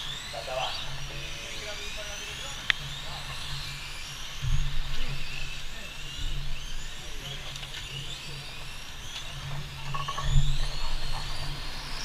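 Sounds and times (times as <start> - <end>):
model car motor whine: 0.0 - 12.0.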